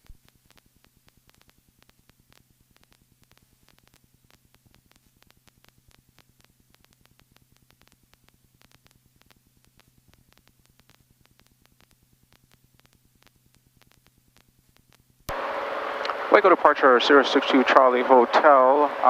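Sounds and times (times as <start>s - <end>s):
rapid faint ticks: 0.0s - 15.3s
faint electrical hum: 0.0s - 19.0s.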